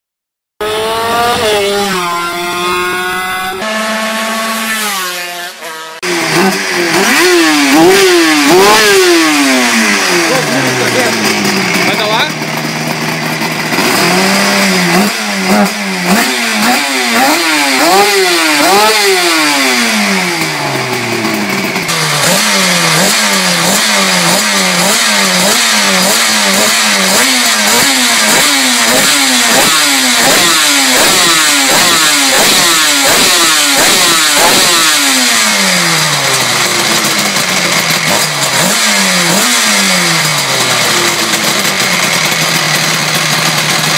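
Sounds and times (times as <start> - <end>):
motorcycle engine revving: 0.6 - 43.9.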